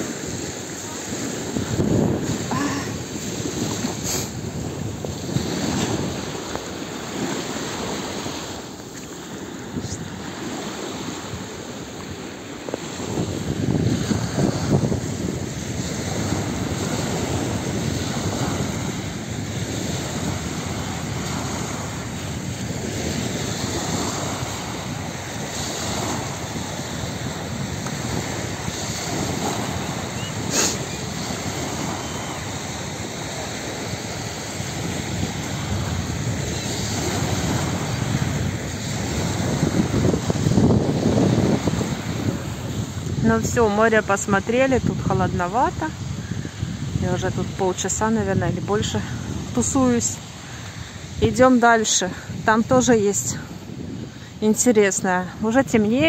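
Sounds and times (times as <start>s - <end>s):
waves washing up a beach: 0.0s - 56.0s
wind buffeting microphone: 0.0s - 56.0s.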